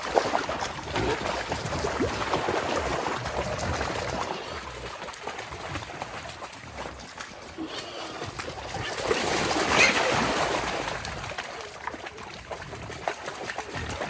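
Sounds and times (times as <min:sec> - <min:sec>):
mud and water sloshing: 0:00.0 - 0:14.0.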